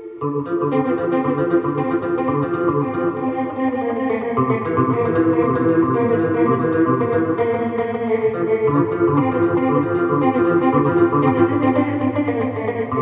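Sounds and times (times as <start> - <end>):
effects guitar picking chords: 0.0 - 13.0.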